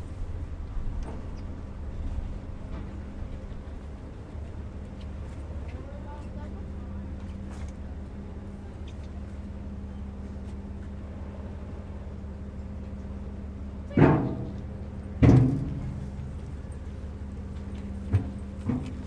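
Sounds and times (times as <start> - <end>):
ferry engine droning: 0.0 - 19.0.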